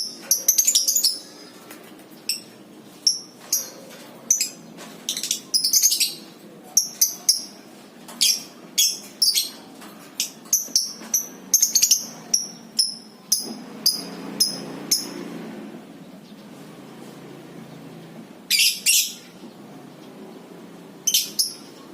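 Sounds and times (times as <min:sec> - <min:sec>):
lovebirds chirping: 0:00.0 - 0:15.4, 0:16.0 - 0:21.9.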